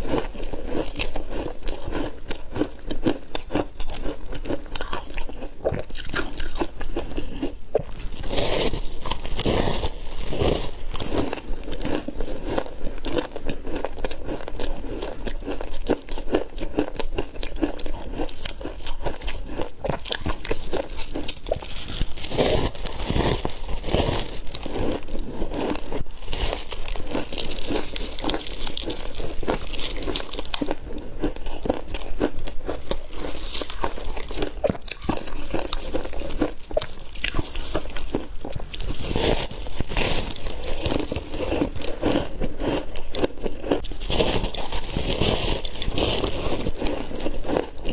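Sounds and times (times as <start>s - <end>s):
chewing ice crunching: 0.0s - 47.9s.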